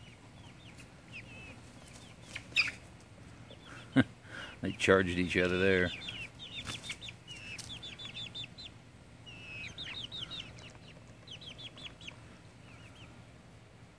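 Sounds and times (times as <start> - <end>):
chicks peeping: 0.0 - 13.5.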